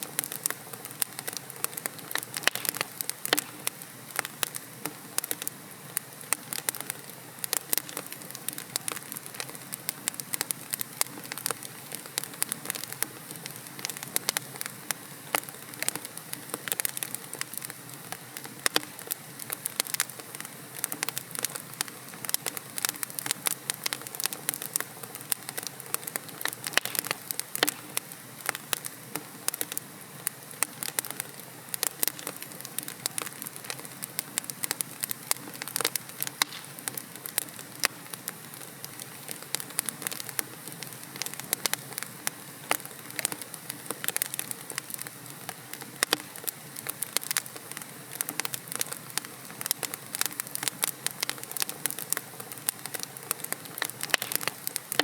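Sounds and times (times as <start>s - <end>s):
burning wood crackling and popping: 0.0s - 55.0s
fire hissing: 0.0s - 55.0s.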